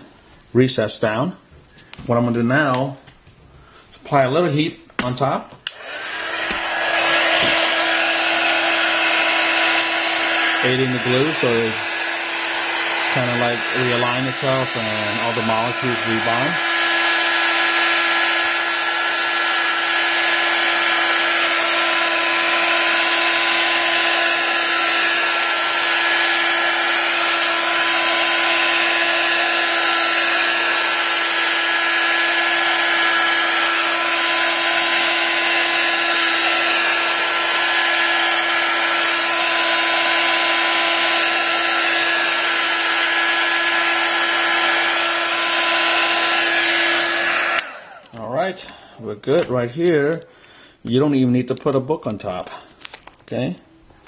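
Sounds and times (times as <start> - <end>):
hot-air blower running: 5.0 - 49.0.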